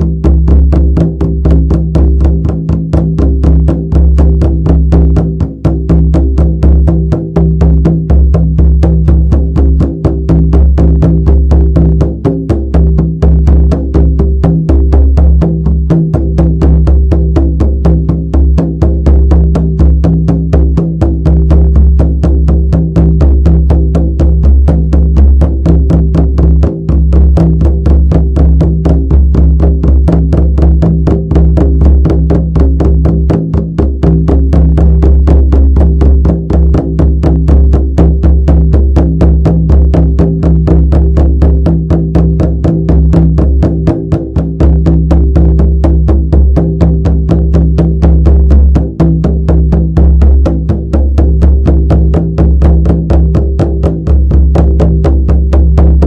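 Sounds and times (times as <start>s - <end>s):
frame drum beaten: 0.0s - 56.0s.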